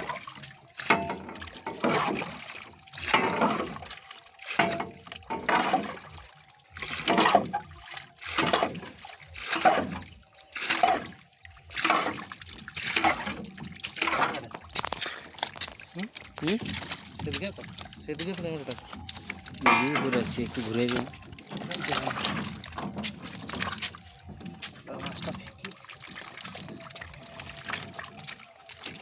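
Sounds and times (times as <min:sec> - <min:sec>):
pond water splashing: 0:00.0 - 0:29.0.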